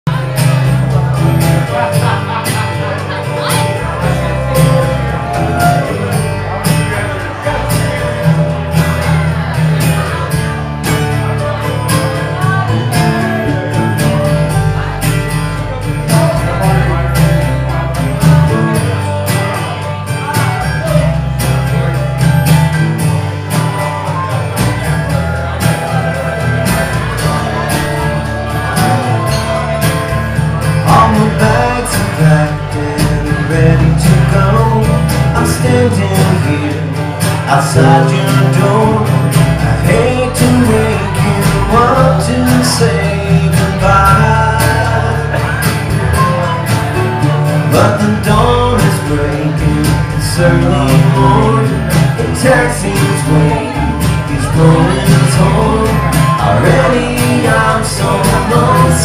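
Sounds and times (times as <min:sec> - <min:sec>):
acoustic band playing: 0:00.0 - 0:59.0.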